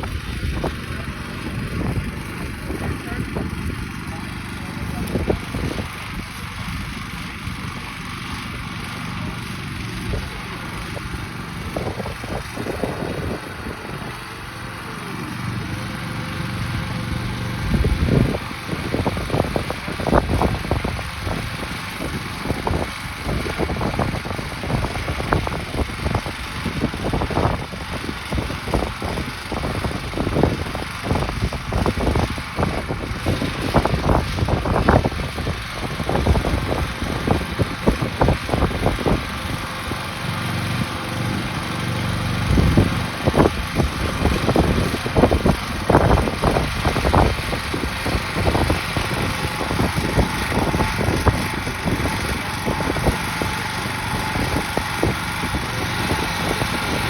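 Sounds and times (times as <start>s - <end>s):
walk-behind tractor engine running: 0.0s - 57.0s.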